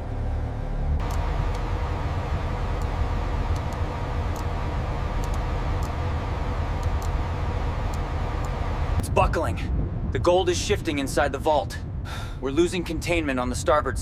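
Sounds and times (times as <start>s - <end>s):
lifting machinery rumble: 0.0s - 14.0s.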